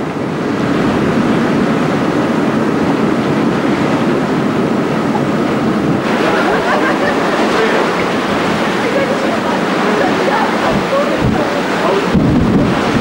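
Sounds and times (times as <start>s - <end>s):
bow wave foaming along hull: 0.0s - 13.0s
ship moving through choppy water: 0.0s - 13.0s
wind rushing: 0.0s - 13.0s.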